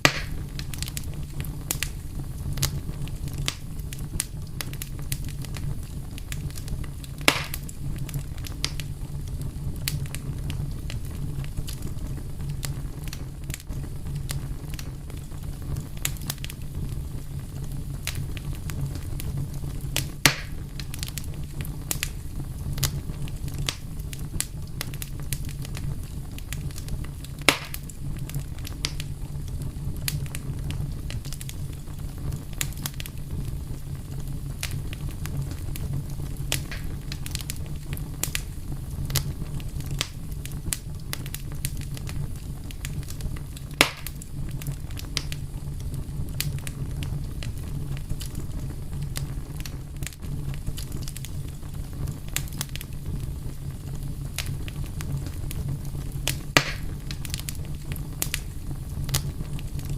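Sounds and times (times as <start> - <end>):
loud fire pops: 0.0 - 59.9
wood fire crackling: 0.0 - 59.9.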